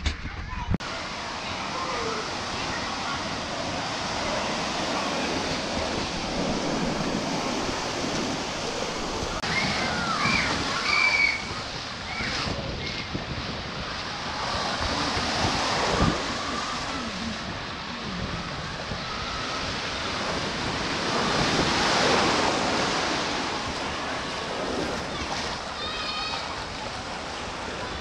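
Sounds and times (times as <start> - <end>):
surf washing and foaming: 0.8 - 28.0.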